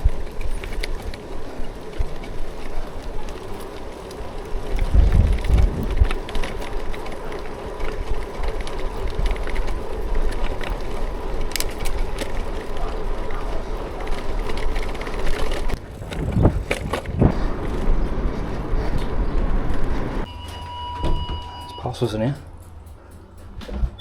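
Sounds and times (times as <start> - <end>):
wind buffeting microphone: 0.0 - 20.3
road noise: 0.0 - 23.7.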